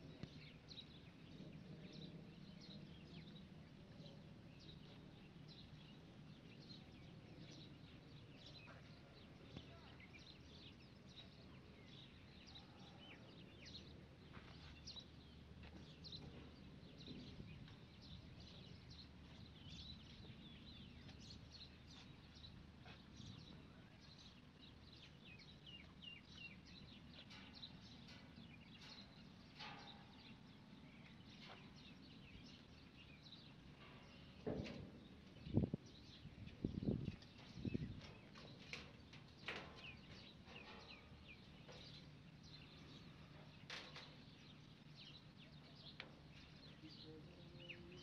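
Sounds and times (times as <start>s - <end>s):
faint birds chirping: 0.0s - 48.0s
low outdoor hum: 0.0s - 48.0s.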